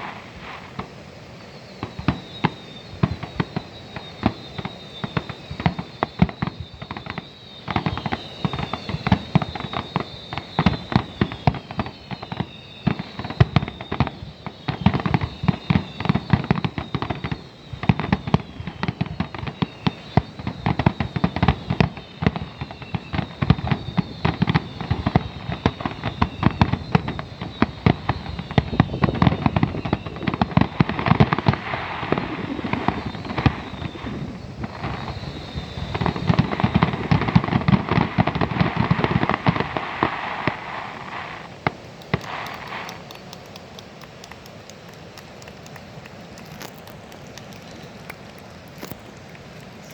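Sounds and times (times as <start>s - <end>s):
firework bursts and bangs: 0.0s - 49.9s
high descending firework whistles: 0.0s - 49.9s.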